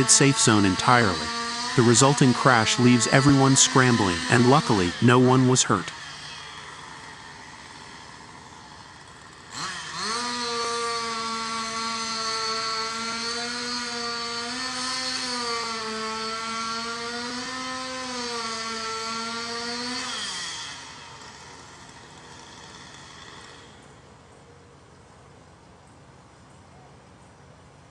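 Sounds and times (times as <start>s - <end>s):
chainsaw revving: 0.0s - 24.1s.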